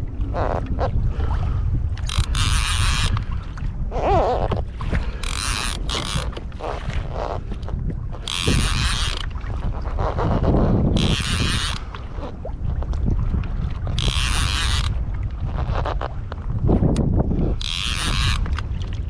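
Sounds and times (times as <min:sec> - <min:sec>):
wavering creak: 0:00.0 - 0:01.0, 0:02.0 - 0:18.9
wind rumbling on microphone: 0:00.0 - 0:19.0.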